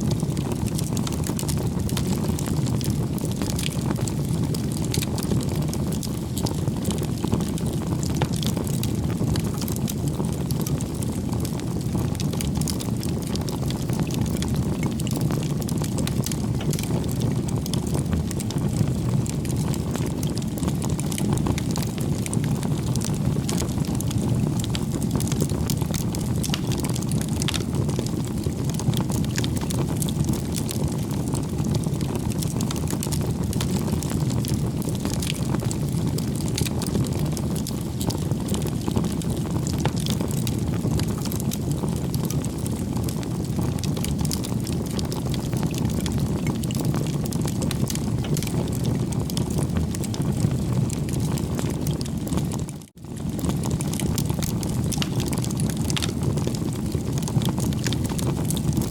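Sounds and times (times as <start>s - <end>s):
fire crackles and pops: 0.0s - 58.9s
rush of flames: 0.0s - 58.9s.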